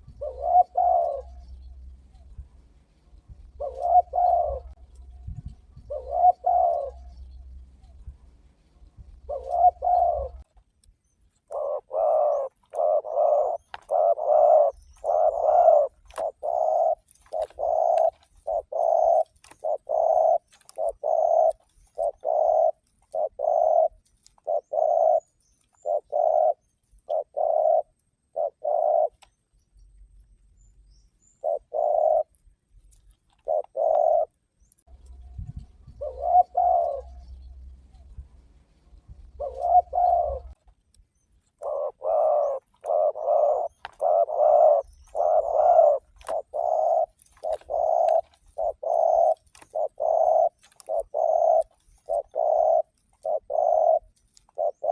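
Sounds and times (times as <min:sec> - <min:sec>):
dove cooing: 0:00.0 - 0:10.5, 0:11.4 - 0:29.3, 0:31.2 - 0:32.4, 0:33.0 - 0:40.7, 0:41.5 - 0:54.9.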